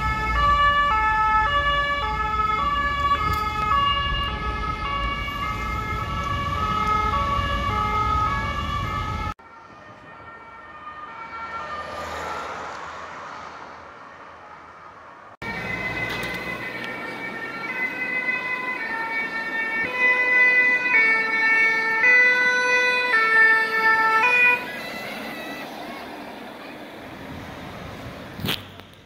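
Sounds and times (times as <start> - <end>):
two-tone siren: 0.0 - 12.8, 15.4 - 26.8
traffic noise: 0.0 - 29.0.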